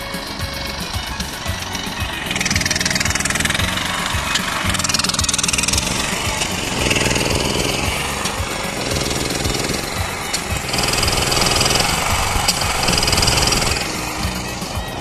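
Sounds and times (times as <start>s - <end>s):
machinery running with fast pulsing: 0.0s - 15.0s.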